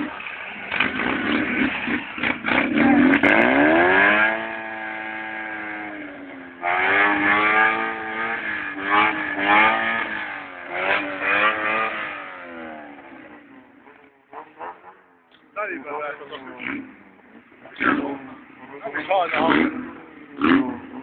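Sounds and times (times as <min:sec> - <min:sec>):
car engine revving: 0:00.0 - 0:15.0, 0:15.6 - 0:21.0.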